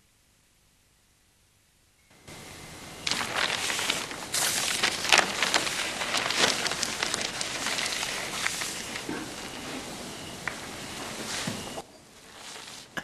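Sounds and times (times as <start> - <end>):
dense crackling rustling noise: 2.2 - 13.0.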